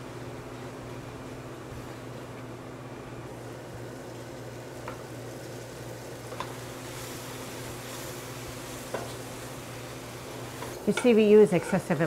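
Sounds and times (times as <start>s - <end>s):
herbs sizzling in a pan: 0.0s - 12.0s.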